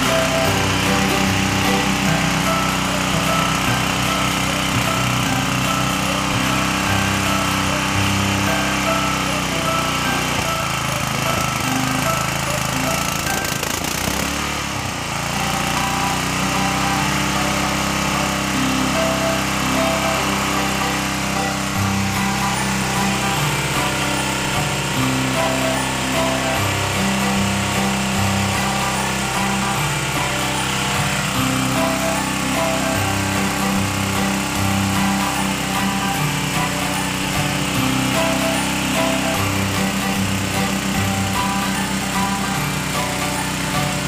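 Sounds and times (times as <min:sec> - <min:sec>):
water pump engine running: 0:00.0 - 0:44.0.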